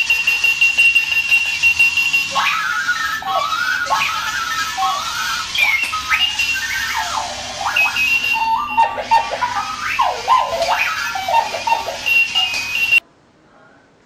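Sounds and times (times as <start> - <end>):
alarm clock beeps and chirps: 0.0 - 13.0.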